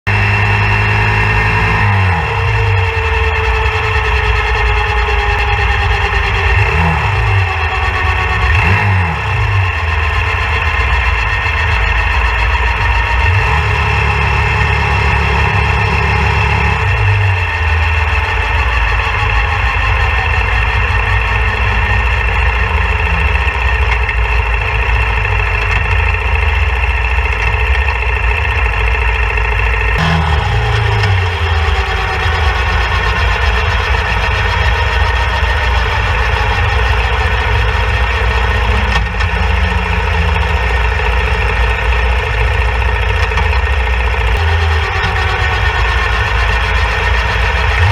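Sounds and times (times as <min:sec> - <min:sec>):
motorcycle engine running: 0:00.0 - 0:47.9
high whine from wheel: 0:00.1 - 0:47.9.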